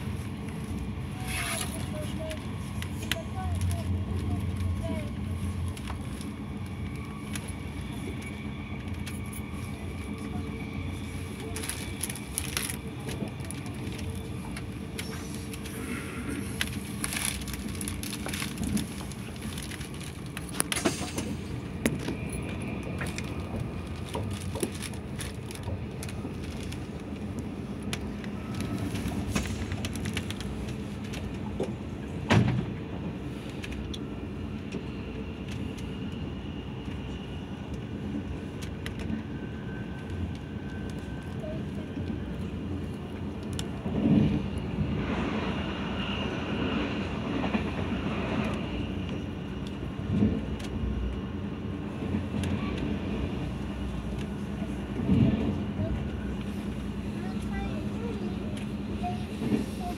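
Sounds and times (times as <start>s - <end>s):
train cabin rumble: 0.0s - 59.9s.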